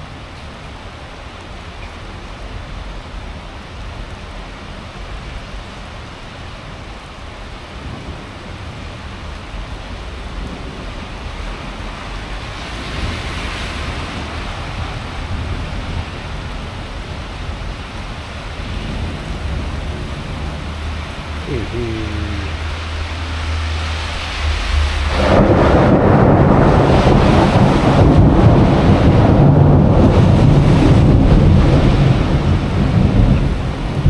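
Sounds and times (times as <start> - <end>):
steady rain falling: 0.0 - 34.0
wind rumbling on microphone: 1.8 - 34.0.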